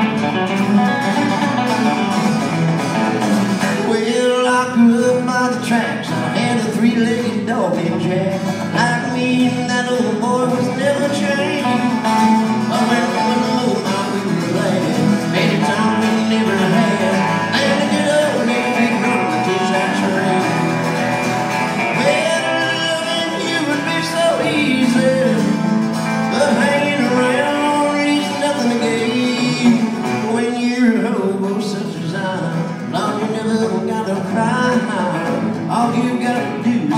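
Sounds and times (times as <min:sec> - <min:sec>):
acoustic guitar strumming: 0:00.0 - 0:36.9
live country band playing: 0:00.0 - 0:36.9.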